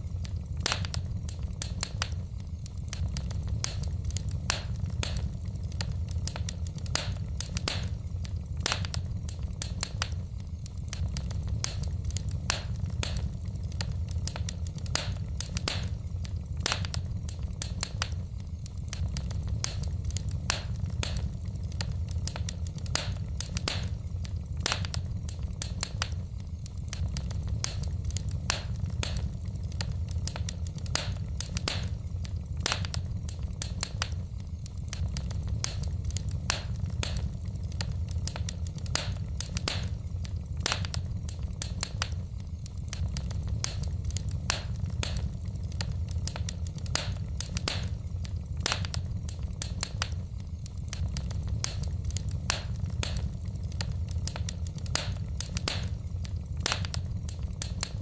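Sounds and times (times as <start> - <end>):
burning logs crackling and popping: 0.0 - 58.0
fire flames rumbling: 0.0 - 58.0.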